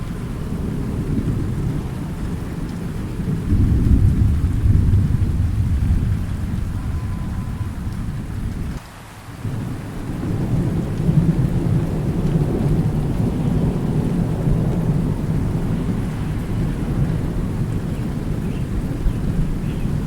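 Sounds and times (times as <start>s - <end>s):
thunder rolling: 0.0s - 8.8s, 9.4s - 20.0s
steady rain: 0.0s - 20.0s.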